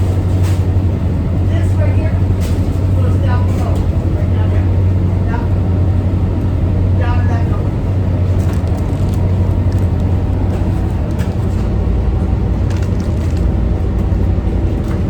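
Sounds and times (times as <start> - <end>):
low drone of boat engines: 0.0 - 15.0.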